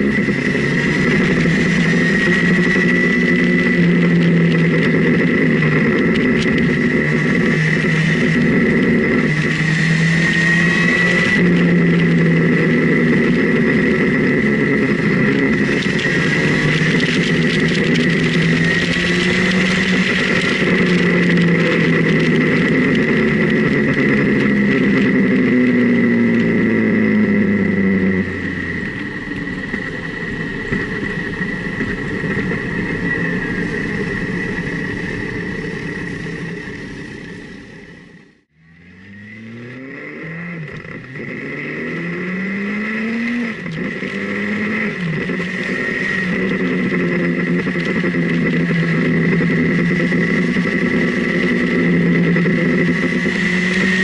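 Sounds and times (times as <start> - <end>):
motorcycle engine revving: 0.0 - 54.0
steady high whine: 0.0 - 54.0.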